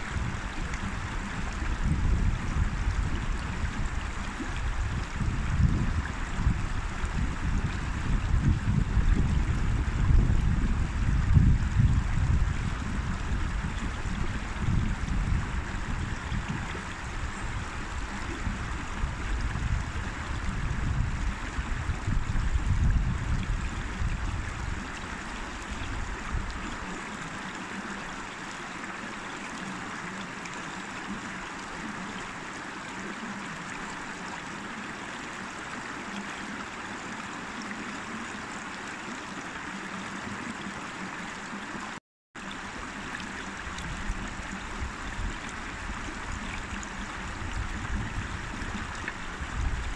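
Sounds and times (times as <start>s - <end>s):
river water rushing: 0.0s - 49.9s.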